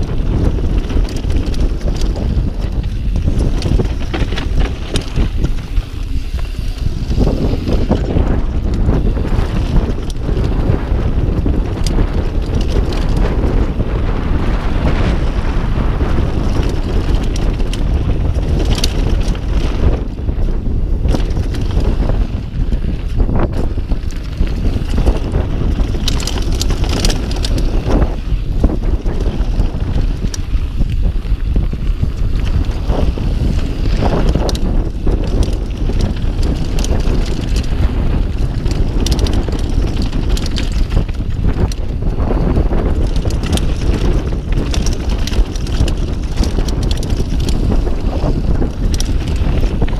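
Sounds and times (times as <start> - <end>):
bike clacking and rattling: 0.0 - 49.9
tyres rumbling on gravel: 0.0 - 49.9
wind buffeting microphone: 0.0 - 49.9.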